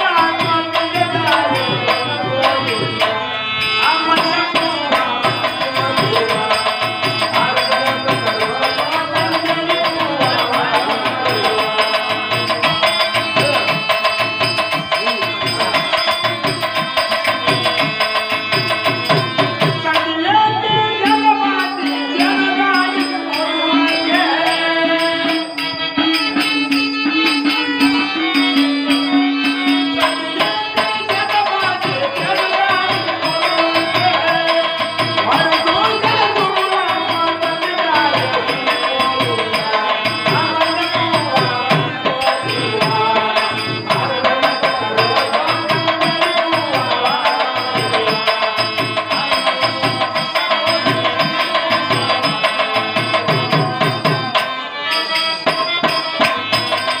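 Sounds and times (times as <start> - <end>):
folk melody with drone: 0.0 - 47.5
hand drums beating: 0.0 - 57.0.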